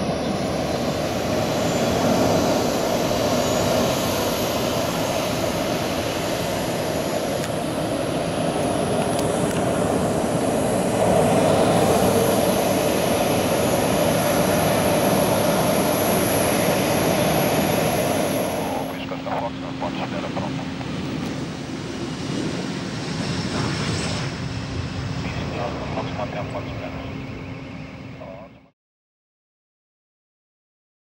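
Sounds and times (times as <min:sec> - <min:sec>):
high-pitched engine whine: 0:00.0 - 0:28.7
jet engines running: 0:00.0 - 0:28.7.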